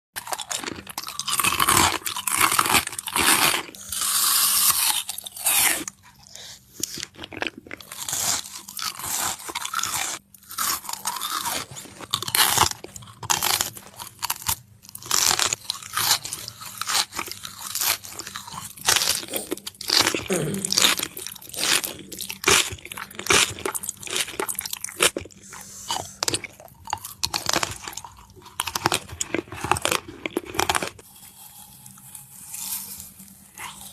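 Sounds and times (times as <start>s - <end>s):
person chewing crunchy food: 0.2s - 33.9s.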